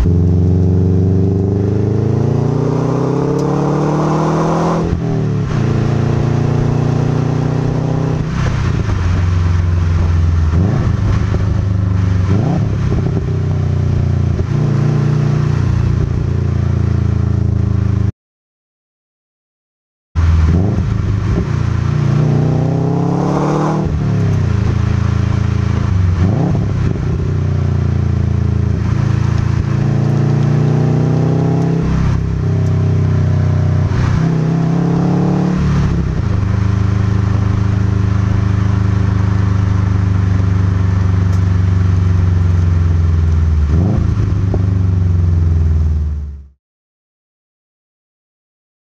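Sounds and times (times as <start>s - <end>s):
car engine revving through gears: 0.0s - 16.1s, 20.2s - 45.5s.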